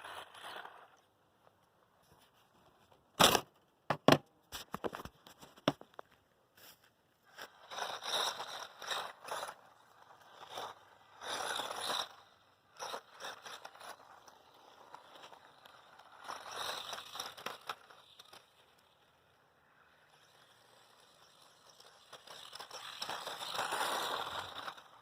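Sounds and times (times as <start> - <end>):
rc truck tyres crunching on ground: 0.0 - 3.0, 4.5 - 25.0.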